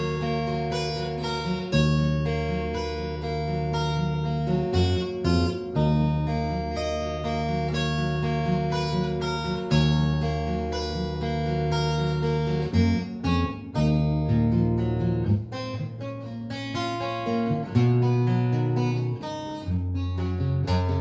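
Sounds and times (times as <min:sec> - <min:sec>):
acoustic guitar playing chords: 0:00.0 - 0:21.0.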